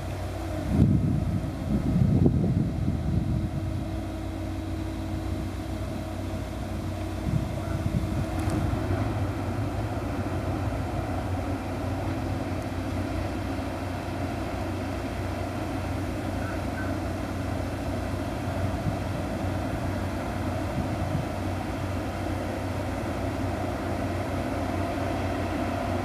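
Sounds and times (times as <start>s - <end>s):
diesel engine droning: 0.0s - 26.0s
propeller churning water: 0.0s - 26.0s.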